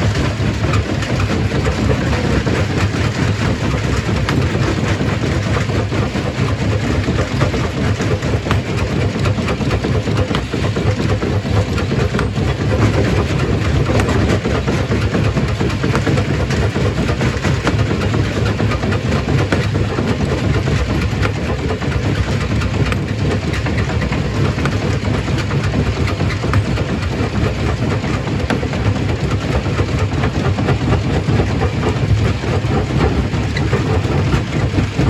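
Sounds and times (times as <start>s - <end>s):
stone crusher humming: 0.0s - 35.0s.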